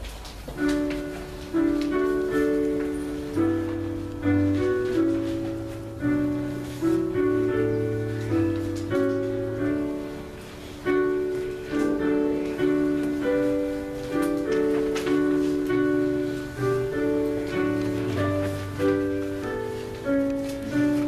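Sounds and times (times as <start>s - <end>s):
piano playing slow chords: 0.0s - 21.0s.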